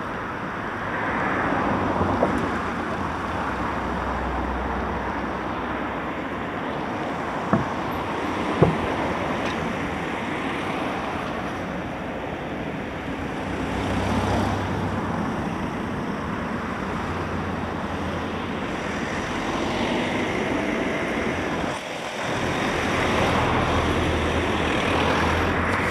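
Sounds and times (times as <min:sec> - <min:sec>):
road traffic passing: 0:00.0 - 0:25.9.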